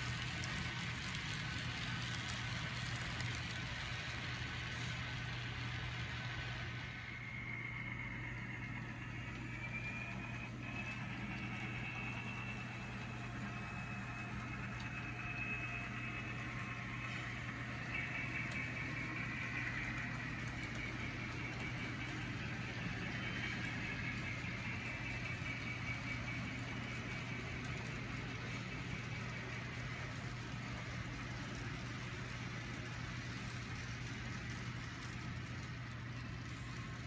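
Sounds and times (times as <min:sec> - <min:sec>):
high wavering whine: 0:00.0 - 0:37.0
model locomotive engine sound: 0:00.0 - 0:37.0
model train rolling: 0:00.0 - 0:37.0.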